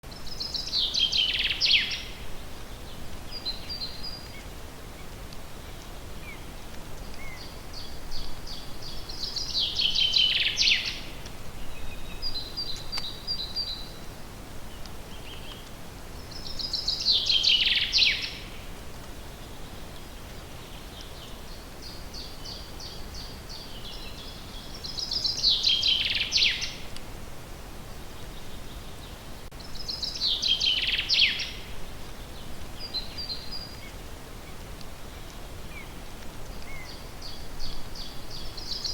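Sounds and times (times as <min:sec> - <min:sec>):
songbird singing: 0:00.0 - 0:27.1, 0:27.8 - 0:38.9
background hiss: 0:00.0 - 0:38.9.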